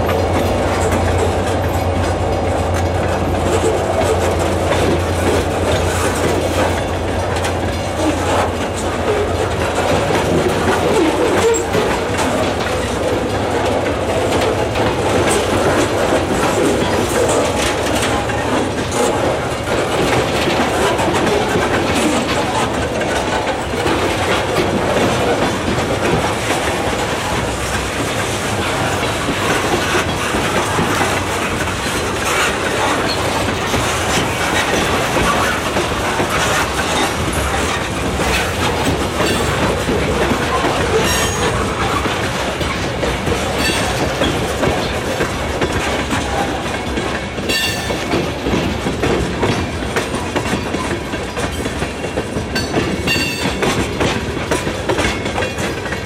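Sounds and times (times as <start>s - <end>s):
freight cars rolling on rails: 0.0s - 56.0s.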